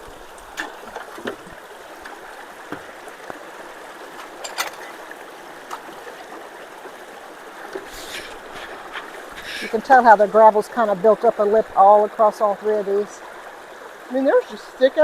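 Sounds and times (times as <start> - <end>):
water rushing through culverts: 0.0 - 15.0.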